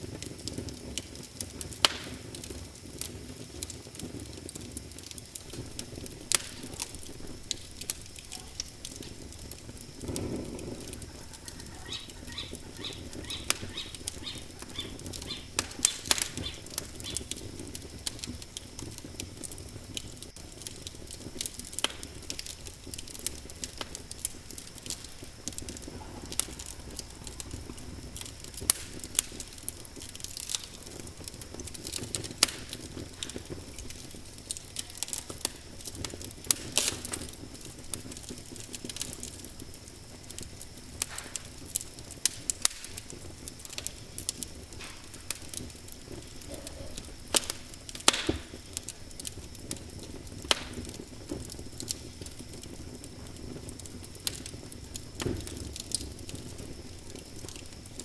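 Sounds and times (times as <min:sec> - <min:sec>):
low rush of flame: 0:00.0 - 0:58.0
wood fire crackling and popping: 0:00.0 - 0:58.0.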